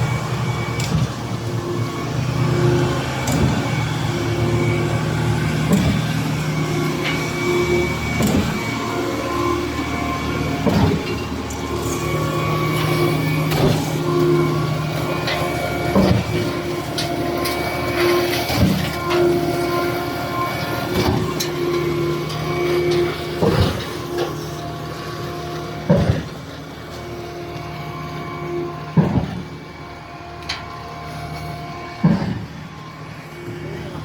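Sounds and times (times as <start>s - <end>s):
heavy pump clunk: 0.0s - 34.0s
pump truck machine hum and whine: 0.0s - 34.0s.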